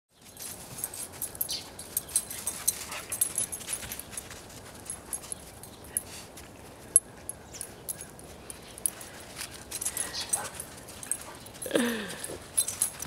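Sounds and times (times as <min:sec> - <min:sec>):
high clicks and jingles: 0:00.3 - 0:06.4, 0:07.0 - 0:13.0.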